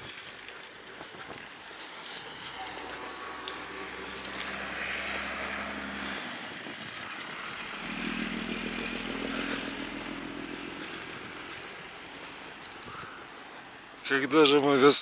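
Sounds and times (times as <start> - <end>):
steady traffic hiss: 0.0 - 15.0
vehicle engine hum: 0.0 - 15.0.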